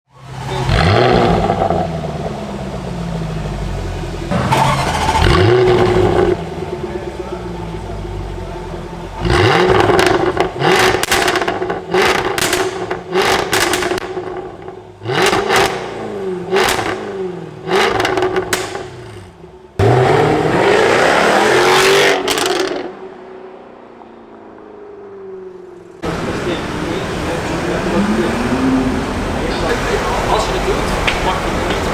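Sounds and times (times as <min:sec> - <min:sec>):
car engine revving: 0:00.2 - 0:31.9.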